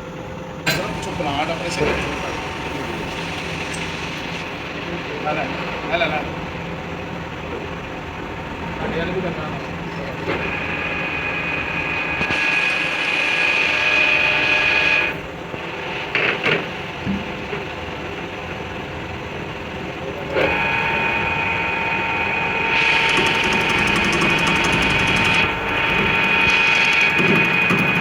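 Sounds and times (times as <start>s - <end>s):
power tool whining: 0.6s - 6.7s, 7.4s - 16.4s, 20.2s - 28.0s.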